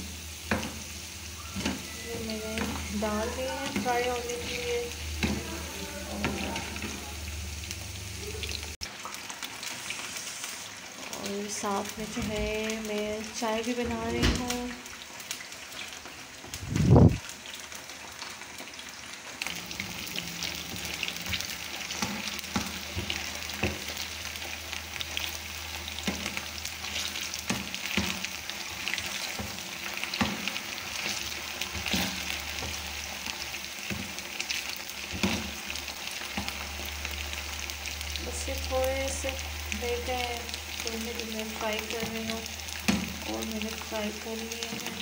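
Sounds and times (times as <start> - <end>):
chips deep-frying in oil: 0.0 - 45.0.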